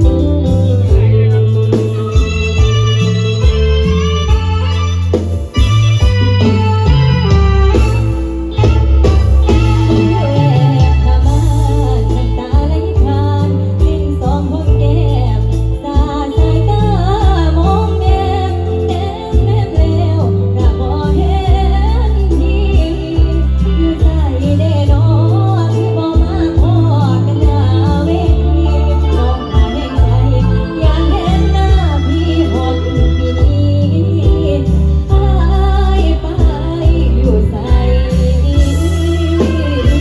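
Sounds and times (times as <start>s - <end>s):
electronic organ: 0.0s - 40.0s
steady bass line: 0.0s - 40.0s.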